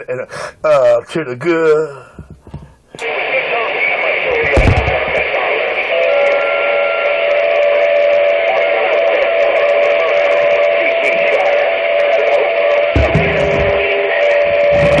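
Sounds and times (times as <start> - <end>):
radio receiver hiss: 2.0 - 15.0.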